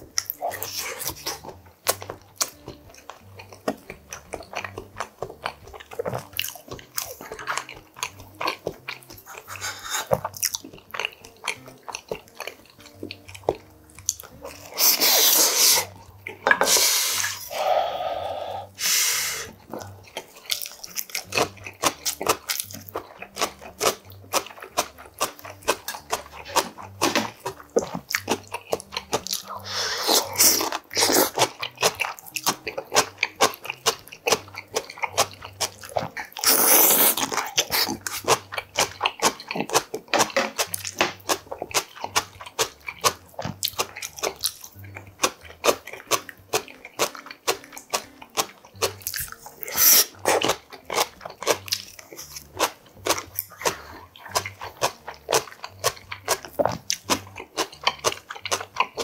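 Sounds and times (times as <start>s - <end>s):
wet mouth clicks and crunches: 0.0s - 17.6s, 18.7s - 59.0s
person chewing food: 0.0s - 59.0s.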